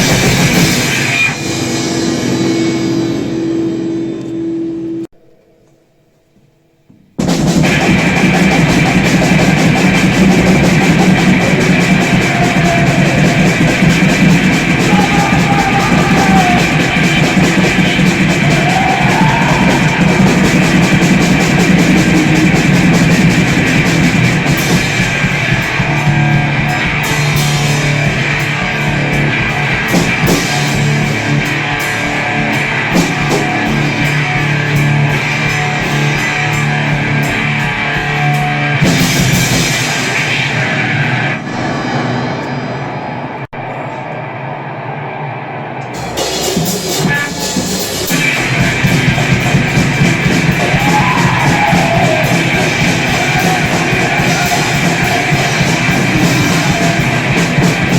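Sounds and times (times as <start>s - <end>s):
drum kit: 0.0s - 4.4s, 5.0s - 43.7s, 45.8s - 57.9s
distorted electric guitar: 0.0s - 5.7s, 7.2s - 45.1s, 45.8s - 57.9s.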